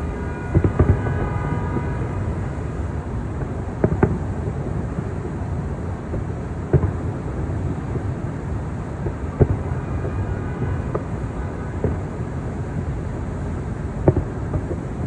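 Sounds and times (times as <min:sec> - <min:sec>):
distant fireworks booms: 0:00.0 - 0:15.0.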